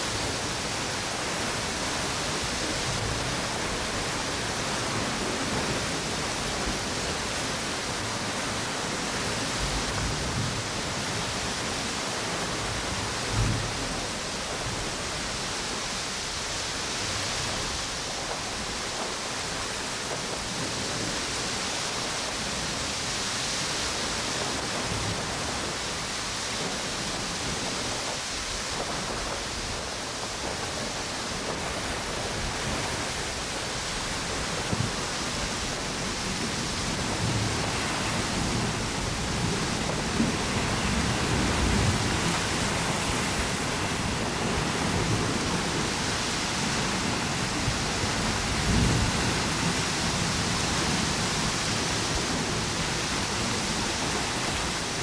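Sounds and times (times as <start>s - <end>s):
waves washing on beach: 0.0s - 55.0s
wind through palm trees: 0.0s - 55.0s.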